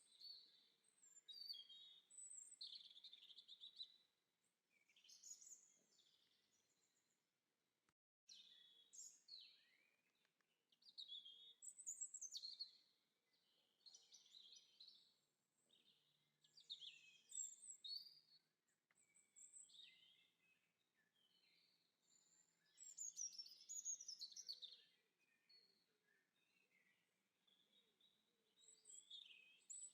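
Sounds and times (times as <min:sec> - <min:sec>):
songbirds chirping: 0:00.0 - 0:07.3, 0:08.3 - 0:29.9.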